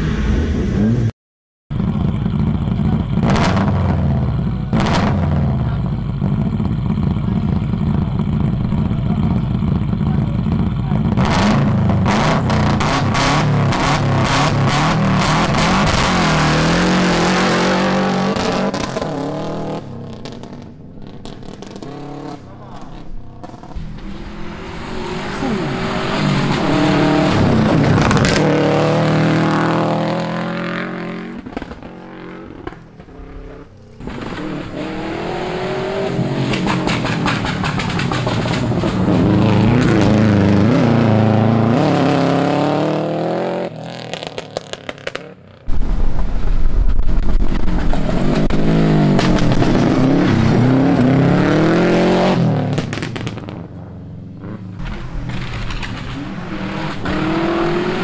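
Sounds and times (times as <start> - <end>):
engines revving with gear changes: 1.7 - 45.7, 47.1 - 58.0
rally cars passing at speed: 11.1 - 58.0.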